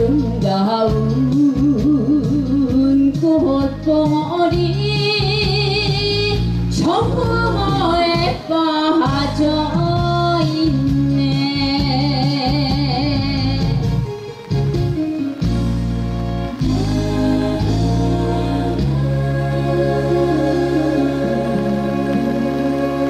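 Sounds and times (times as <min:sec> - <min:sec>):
woman singing into microphone: 0:00.0 - 0:14.0, 0:16.6 - 0:23.0.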